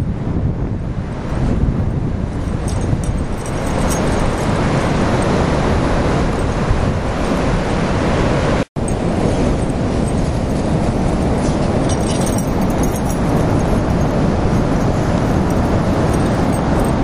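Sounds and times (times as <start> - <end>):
ocean surf roaring: 0.0 - 17.0
wind rumbling on microphone: 0.0 - 17.0.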